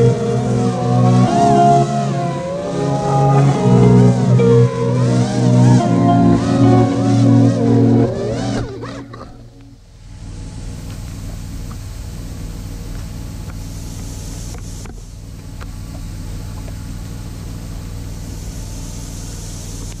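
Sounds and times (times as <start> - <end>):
combine engine drone: 0.0 - 20.0.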